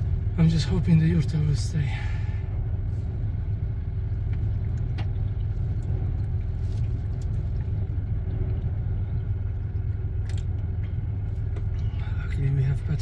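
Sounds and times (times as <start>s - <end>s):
low wind rumble inside car: 0.0s - 13.0s.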